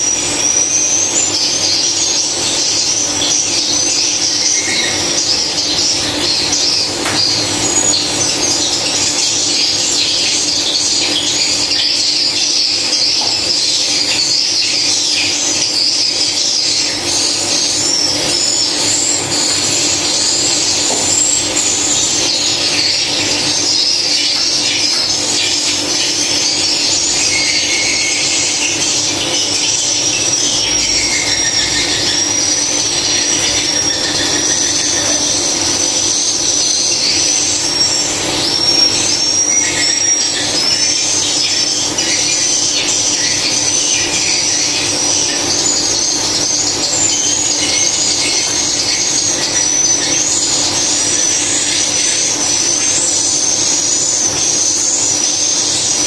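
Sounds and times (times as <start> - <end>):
swiftlets twittering: 0.0 - 56.0.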